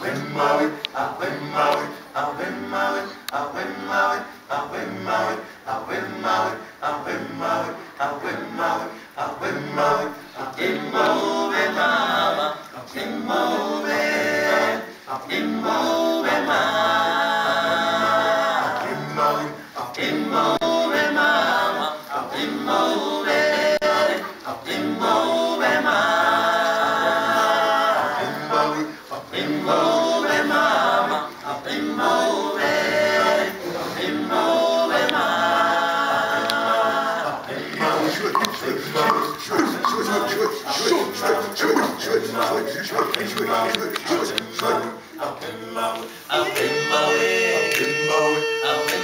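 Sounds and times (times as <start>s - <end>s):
male group singing in harmony: 0.0s - 49.0s.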